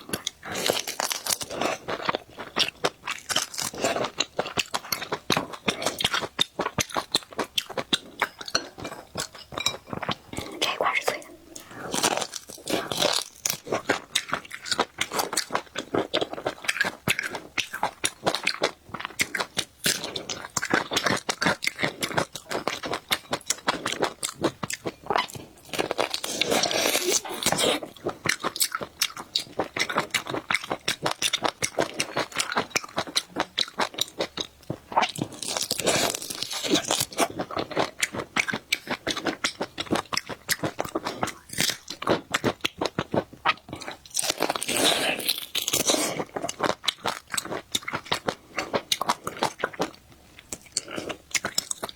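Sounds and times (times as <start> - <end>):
person chewing and crunching food: 0.0 - 51.9.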